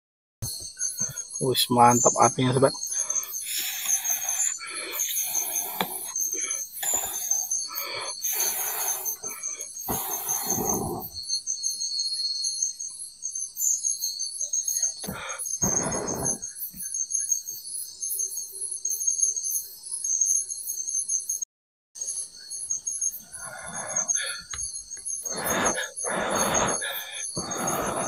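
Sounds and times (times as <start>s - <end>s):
night insects chirping: 0.5s - 21.4s, 22.0s - 28.0s.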